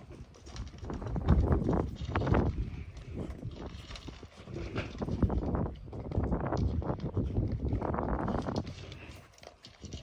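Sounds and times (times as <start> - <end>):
dog crunching dry food: 0.0 - 10.0
kibble rattling in metal bowl: 0.0 - 10.0.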